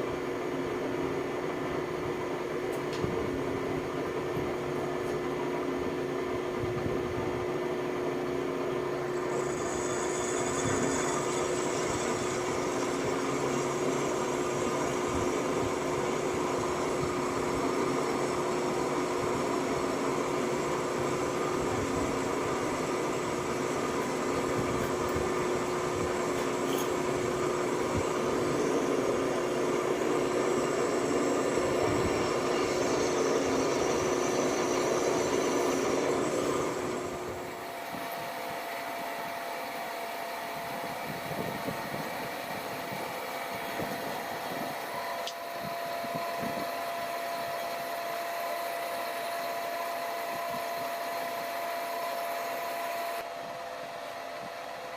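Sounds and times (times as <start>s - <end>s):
machine motor humming: 8.5s - 54.3s.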